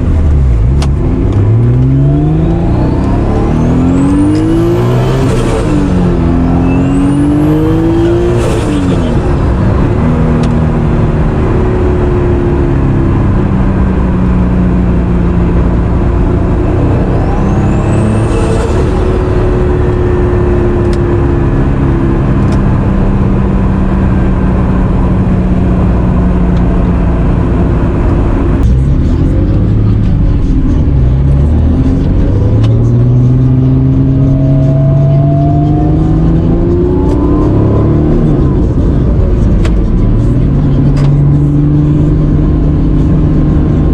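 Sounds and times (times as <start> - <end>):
car engine under load: 0.0 - 43.9.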